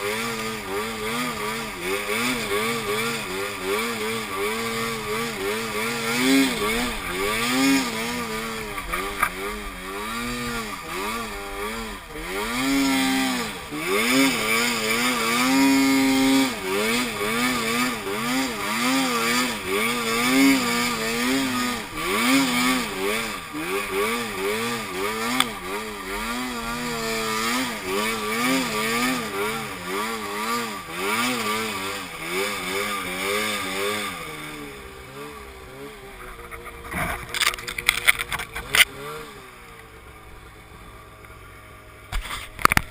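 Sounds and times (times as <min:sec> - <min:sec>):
snowmobile engine revving: 0:00.0 - 0:42.9.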